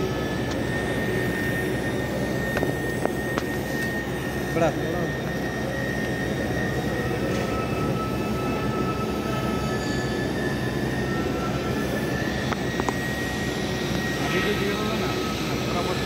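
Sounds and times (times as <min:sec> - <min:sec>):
machine drone: 0:00.0 - 0:16.0.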